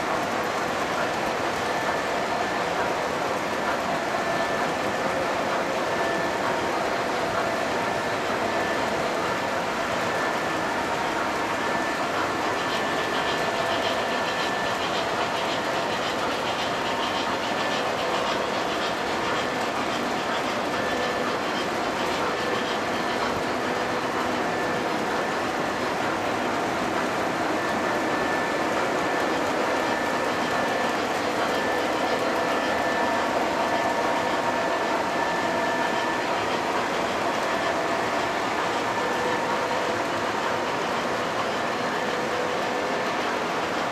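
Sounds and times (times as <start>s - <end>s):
model train wheels rumbling: 0.0s - 43.9s.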